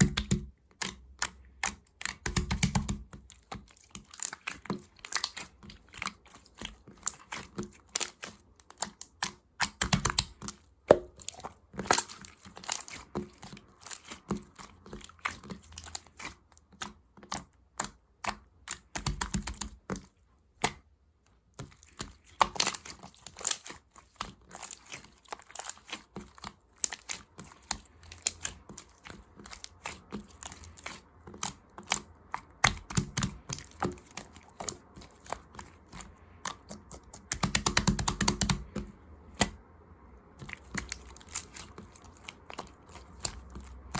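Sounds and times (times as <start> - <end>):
slime squished by hand: 0.0 - 39.6, 40.2 - 43.9.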